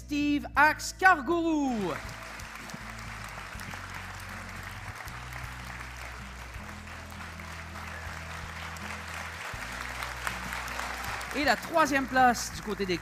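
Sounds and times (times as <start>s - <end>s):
background music with low notes: 0.0s - 13.0s
audience and children applauding: 1.7s - 13.0s.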